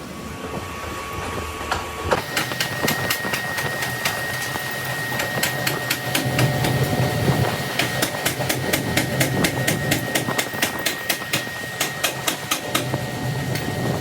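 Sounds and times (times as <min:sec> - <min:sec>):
low machine hum: 0:00.0 - 0:14.0
thin steady whine: 0:00.0 - 0:14.0.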